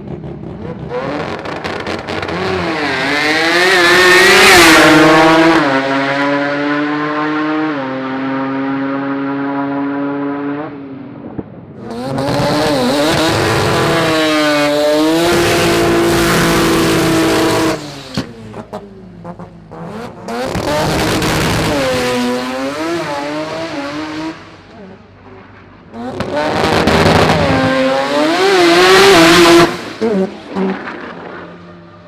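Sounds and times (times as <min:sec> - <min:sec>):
racing car engines revving: 0:00.0 - 0:32.0.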